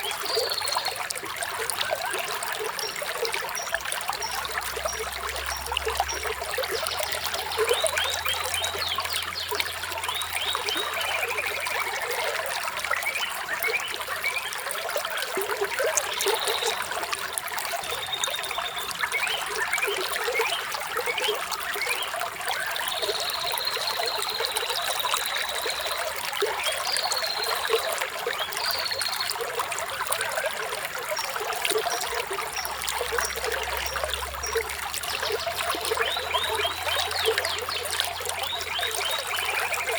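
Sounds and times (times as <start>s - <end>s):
water trickling in a stream: 0.0s - 39.9s.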